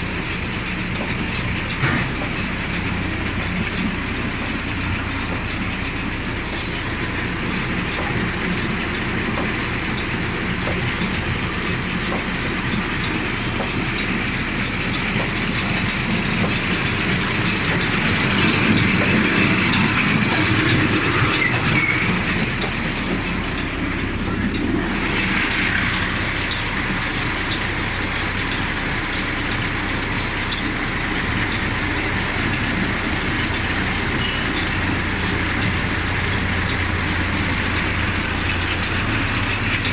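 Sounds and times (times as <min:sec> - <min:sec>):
baler chains and rollers clattering: 0:00.0 - 0:39.9
tractor engine hum: 0:00.0 - 0:39.9.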